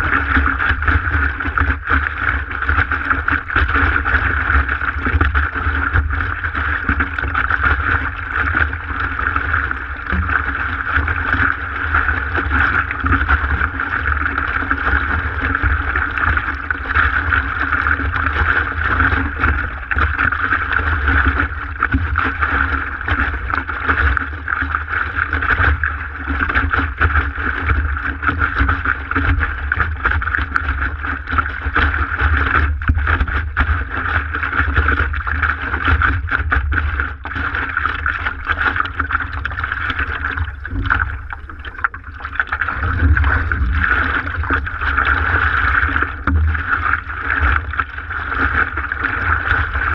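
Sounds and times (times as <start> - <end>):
constant low rumble: 0.0 - 49.9
water rushing against paddleboard: 0.0 - 49.9.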